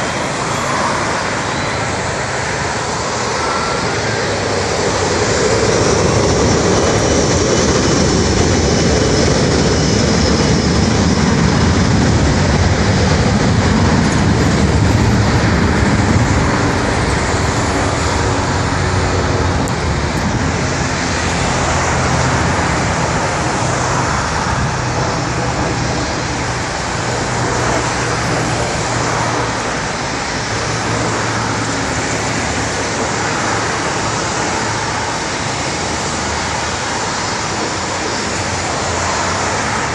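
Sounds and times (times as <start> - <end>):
jet engines running: 0.0 - 39.9
road traffic passing: 0.0 - 39.9.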